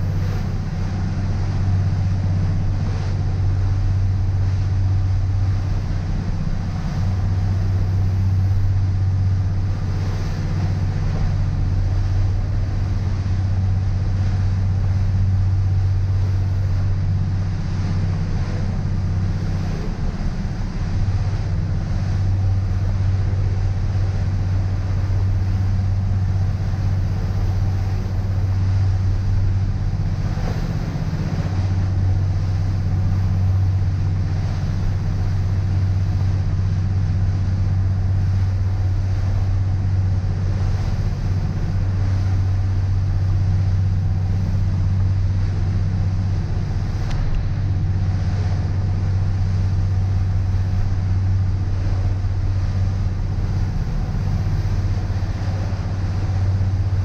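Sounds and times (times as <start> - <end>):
boat engines droning: 0.0 - 57.0
wind and water rushing past hull: 0.0 - 57.0.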